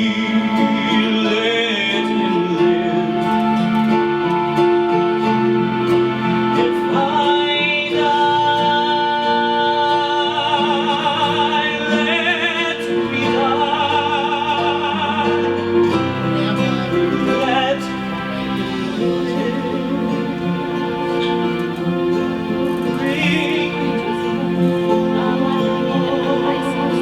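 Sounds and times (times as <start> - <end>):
slow instrumental ballad: 0.0 - 27.0.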